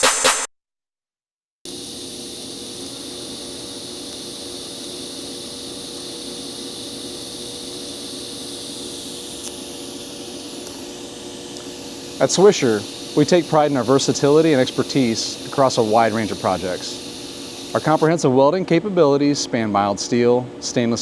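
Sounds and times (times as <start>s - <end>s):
machine hum with high hiss: 1.7s - 21.0s.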